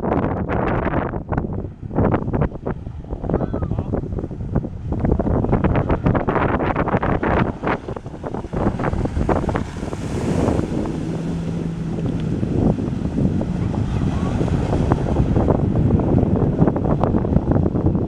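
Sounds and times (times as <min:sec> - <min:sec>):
boat hull slapping water: 0:00.0 - 0:18.0
wind buffeting microphone: 0:00.0 - 0:18.0
water rushing and splashing: 0:01.2 - 0:18.0.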